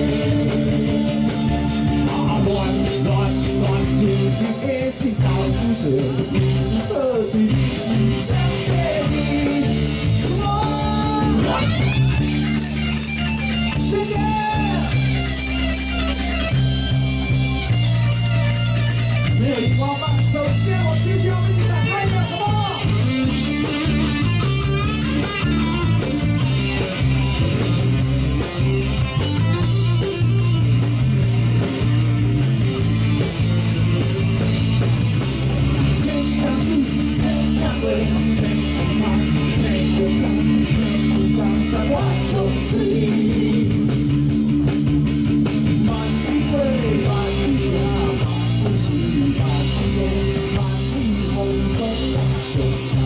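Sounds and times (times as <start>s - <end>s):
electric guitar chords: 0.0s - 53.0s.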